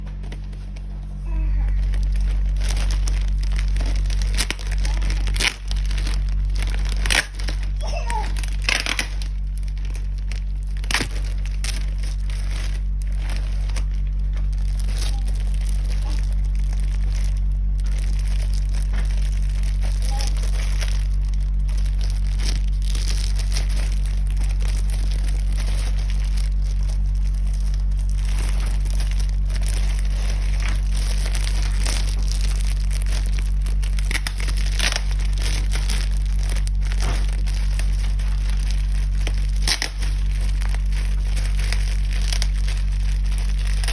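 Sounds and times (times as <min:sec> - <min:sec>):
steady low hum: 0:00.0 - 0:43.9
packaging crinkling and tearing: 0:00.1 - 0:43.9.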